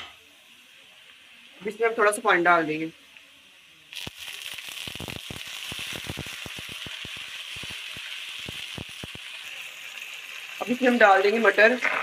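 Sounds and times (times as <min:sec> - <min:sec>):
water sizzling in hot oil: 0:00.3 - 0:12.0.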